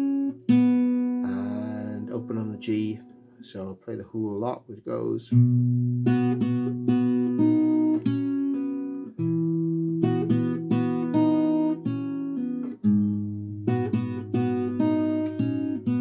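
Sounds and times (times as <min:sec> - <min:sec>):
fingerstyle acoustic guitar: 0:00.0 - 0:03.4, 0:05.3 - 0:16.0.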